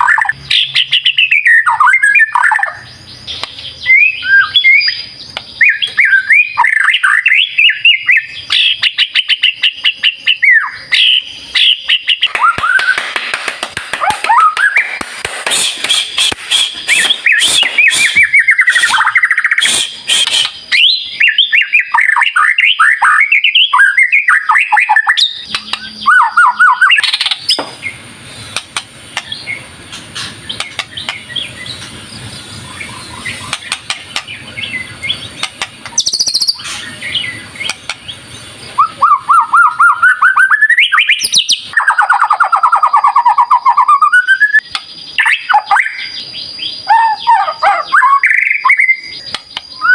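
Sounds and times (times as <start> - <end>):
bird singing: 0.0 - 13.1, 13.9 - 49.9.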